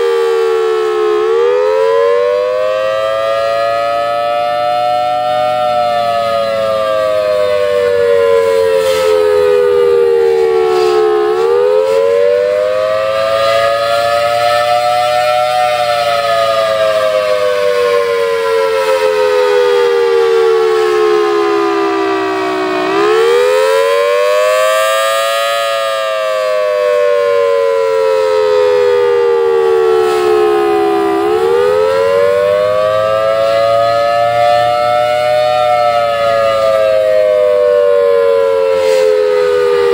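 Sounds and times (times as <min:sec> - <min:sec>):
two-tone warning siren: 0:00.0 - 0:39.9.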